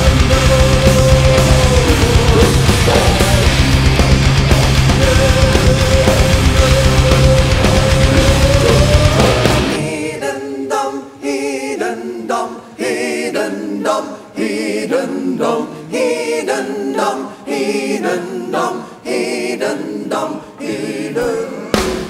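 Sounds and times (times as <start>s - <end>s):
choir singing a cappella: 0.0s - 22.0s.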